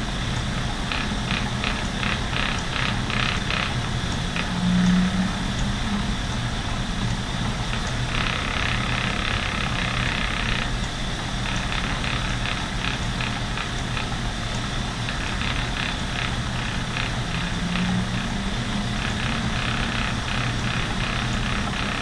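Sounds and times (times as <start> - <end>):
spinning wheel whirring: 0.0 - 22.0
light regular ticking: 0.2 - 22.0.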